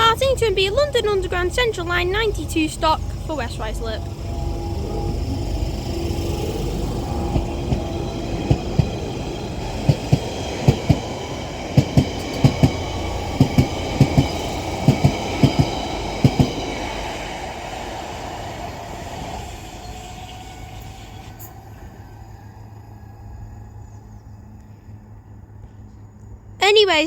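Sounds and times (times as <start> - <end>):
train wheels clicking over rail joints: 0.0 - 23.2
train rumble: 0.0 - 27.0.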